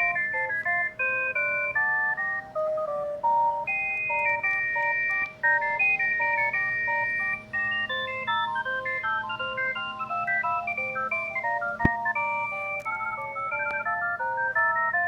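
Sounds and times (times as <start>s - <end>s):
polyphonic phone ringtone: 0.0s - 15.0s.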